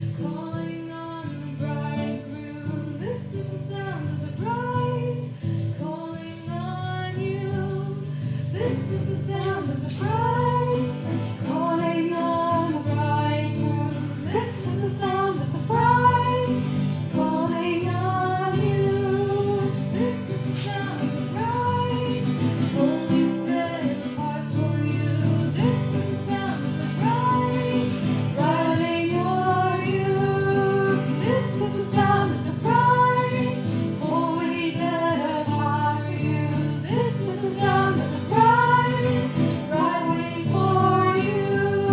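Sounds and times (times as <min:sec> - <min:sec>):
guitar accompaniment: 0:00.0 - 0:41.9
woman singing worship song: 0:00.0 - 0:41.9.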